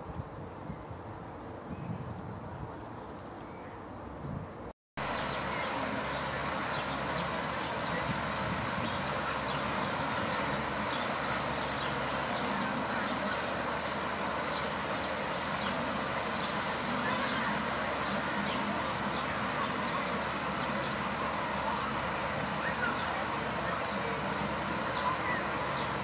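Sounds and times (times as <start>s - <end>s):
background hiss: 0.0s - 26.0s
rustling of dry leaves: 0.0s - 26.0s.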